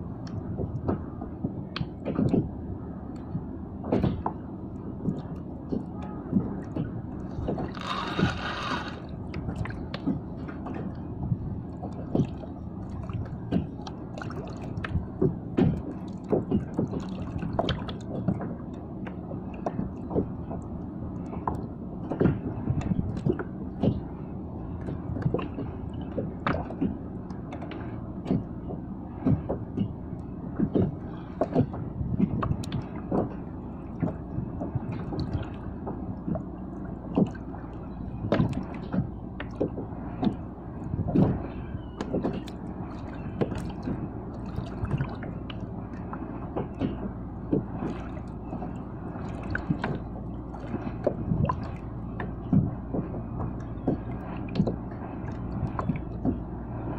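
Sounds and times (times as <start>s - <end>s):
small waves lapping against hull: 0.0s - 56.9s.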